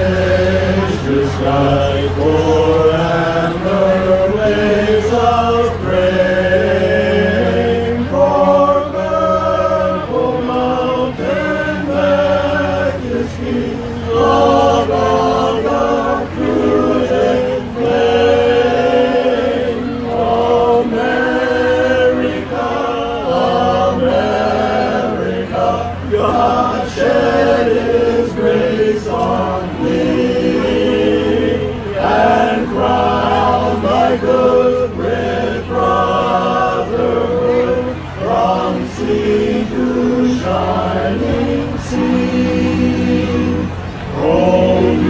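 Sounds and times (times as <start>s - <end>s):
men's chorus singing a cappella: 0.0s - 45.0s.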